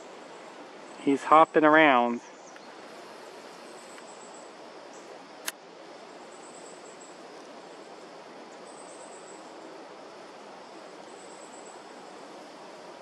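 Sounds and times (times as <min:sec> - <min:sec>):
faint high insect buzz: 0:00.0 - 0:13.0
steady outdoor hiss: 0:00.0 - 0:13.0.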